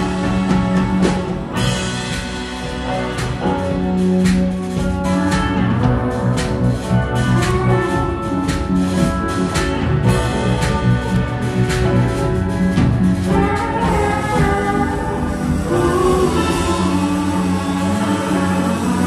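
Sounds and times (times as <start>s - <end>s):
live band playing: 0.0s - 19.0s.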